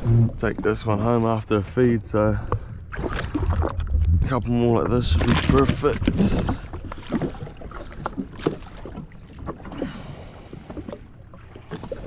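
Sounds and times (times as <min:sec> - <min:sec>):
low rumble of water: 0:00.0 - 0:12.0.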